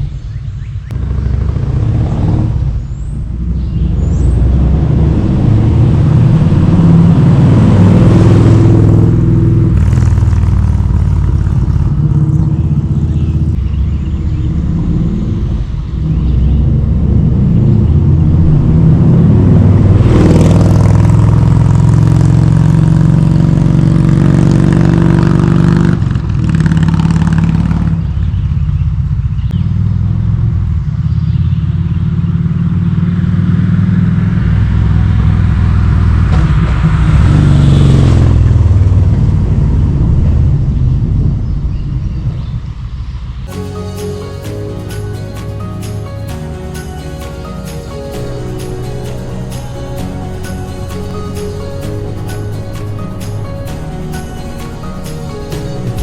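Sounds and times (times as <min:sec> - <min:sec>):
motorcycle engine accelerating: 0:00.9 - 0:56.0.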